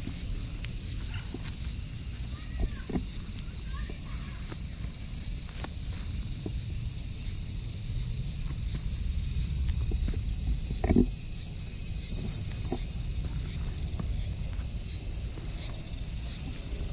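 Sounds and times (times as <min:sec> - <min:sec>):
insect chorus: 0:00.0 - 0:16.9
low wind rumble: 0:00.0 - 0:16.9.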